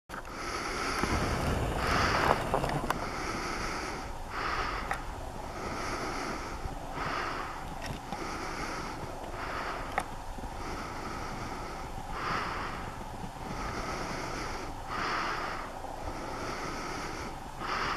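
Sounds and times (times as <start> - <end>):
person breathing slowly: 0.1 - 17.9
low wind rumble: 0.2 - 17.9.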